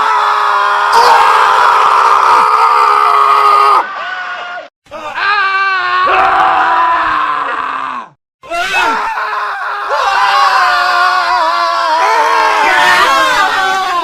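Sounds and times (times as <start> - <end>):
men screaming: 0.0 - 14.0.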